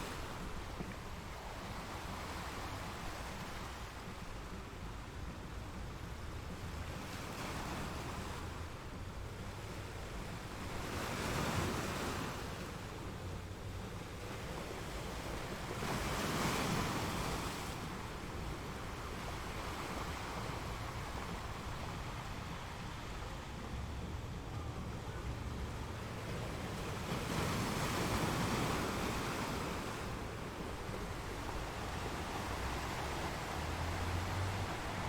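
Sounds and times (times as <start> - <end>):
ocean surf: 0.0 - 35.0
waves breaking: 0.0 - 35.0.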